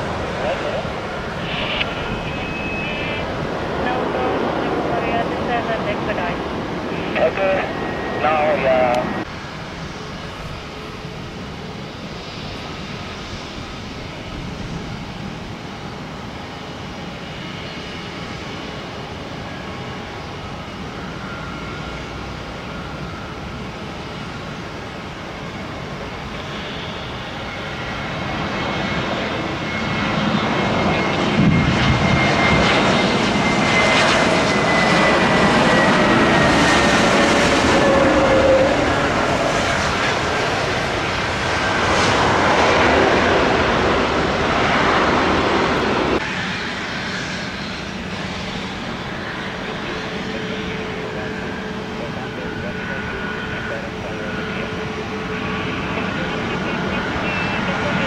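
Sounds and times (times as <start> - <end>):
airliner passing close: 0.0 - 58.0
jet engine whine: 0.0 - 58.0.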